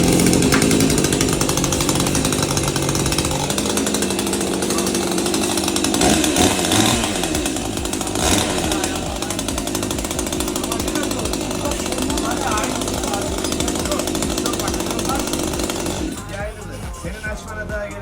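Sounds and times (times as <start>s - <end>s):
chainsaw running: 0.0s - 18.0s.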